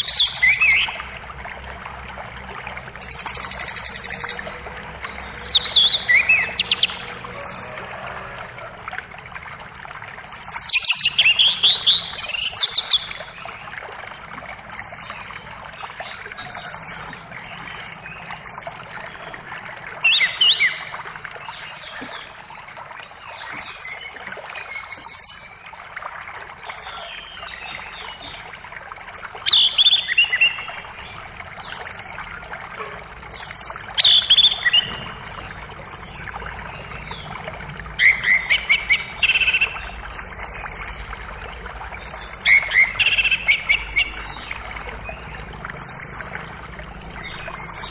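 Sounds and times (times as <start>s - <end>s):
birds singing: 0.0s - 1.3s, 3.0s - 8.7s, 10.2s - 25.8s, 26.7s - 32.4s, 33.2s - 47.9s
creek rushing: 0.0s - 47.9s.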